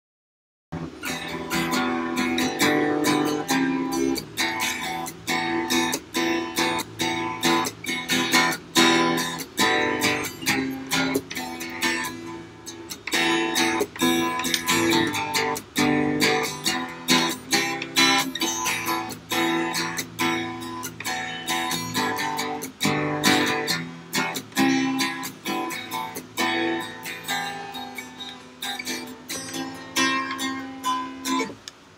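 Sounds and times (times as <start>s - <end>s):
acoustic guitar strumming chords: 0.8s - 31.9s.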